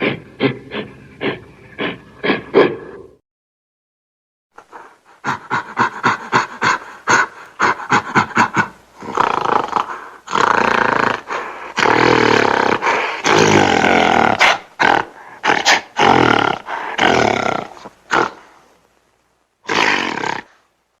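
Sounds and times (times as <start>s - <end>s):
gorilla roaring: 0.0s - 3.2s, 4.7s - 18.6s, 19.6s - 20.6s.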